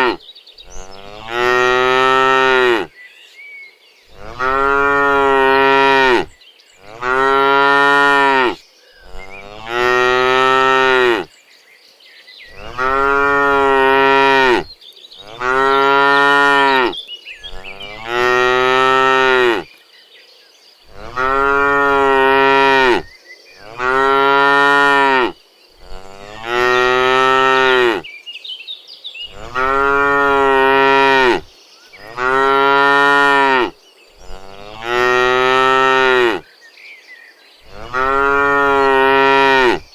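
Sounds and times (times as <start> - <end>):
cattle mooing: 0.0 - 2.9, 4.1 - 11.3, 12.5 - 19.6, 20.9 - 23.0, 23.6 - 28.0, 29.3 - 31.4, 32.0 - 36.4, 37.7 - 39.8.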